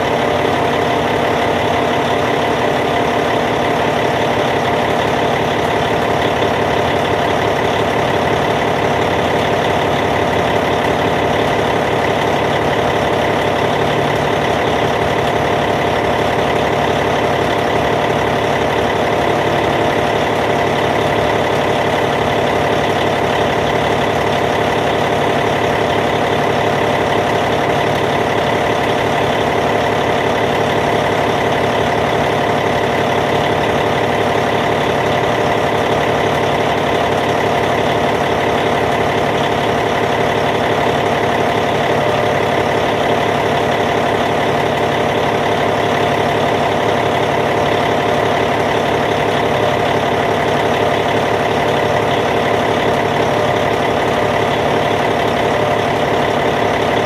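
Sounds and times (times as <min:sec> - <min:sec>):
bulldozer diesel engine idling: 0:00.0 - 0:57.0.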